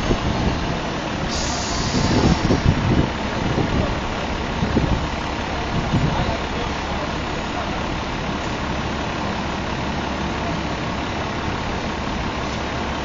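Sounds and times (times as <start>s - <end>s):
busy city street din: 0.0s - 13.0s
idling engine hum: 0.0s - 13.0s.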